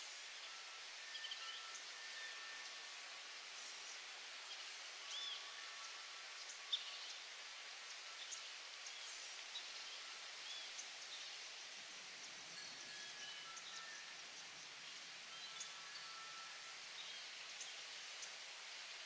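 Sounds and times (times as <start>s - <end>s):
faint hiss with pops: 0.0s - 19.0s.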